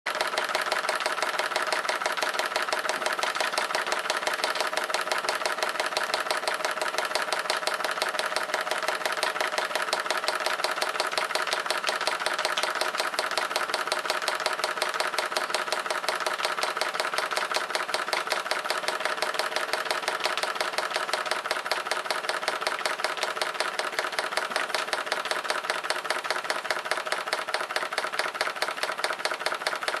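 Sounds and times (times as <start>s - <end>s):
steam engine running: 0.1s - 30.0s.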